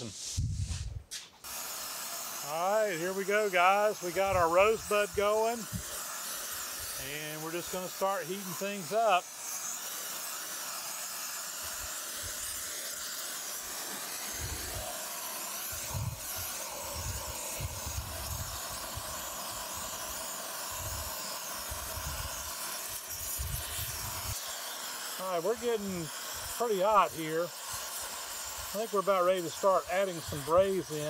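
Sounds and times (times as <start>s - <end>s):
gas torch hissing and rumbling: 0.0s - 31.0s.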